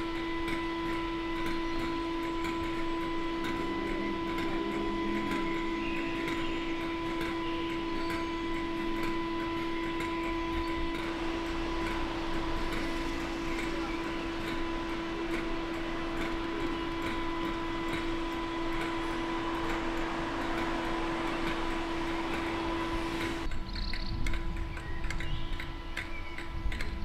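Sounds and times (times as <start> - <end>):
diesel locomotive idling: 0.0 - 27.0.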